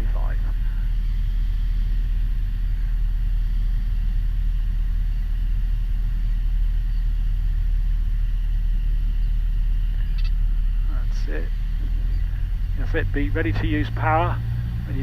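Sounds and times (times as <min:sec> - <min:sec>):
airplane engine and propeller droning: 0:00.0 - 0:15.0.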